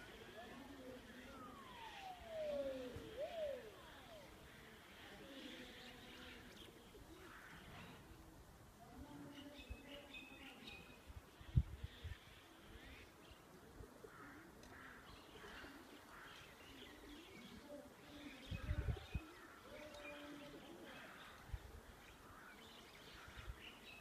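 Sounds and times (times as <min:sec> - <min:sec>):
small birds chirping: 0:00.0 - 0:08.1, 0:08.9 - 0:24.0.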